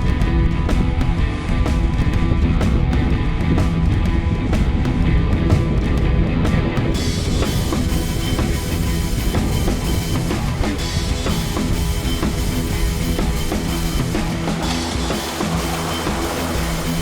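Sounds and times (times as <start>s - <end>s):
rock music with drum kit: 0.0s - 17.0s.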